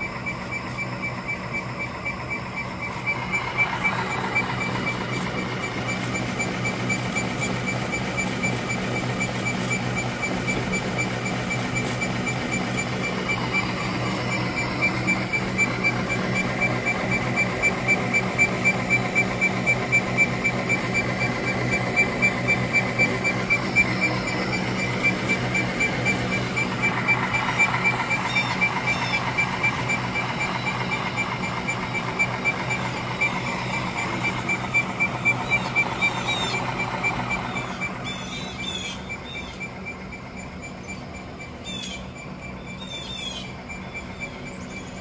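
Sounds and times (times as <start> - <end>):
machine motor hum: 0.0 - 45.0
rapid mechanical ticking: 0.0 - 45.0.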